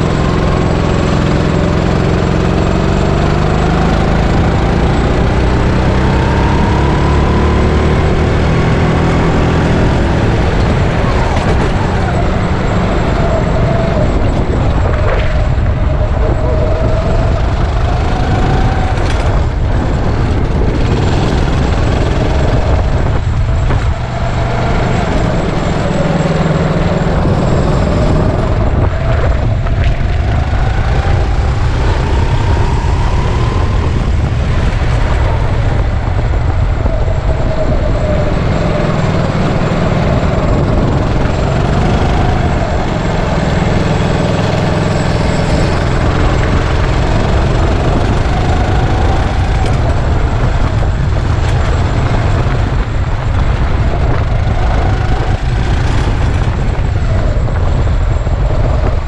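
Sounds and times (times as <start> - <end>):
kart engine revving: 0.0 - 59.0
loud low rumble: 0.0 - 59.0.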